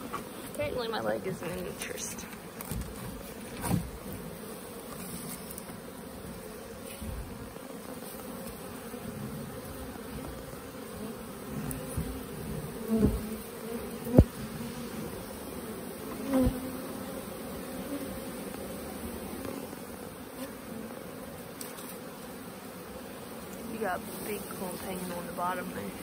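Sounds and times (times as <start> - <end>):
honeybee swarm buzzing: 0.0 - 26.0.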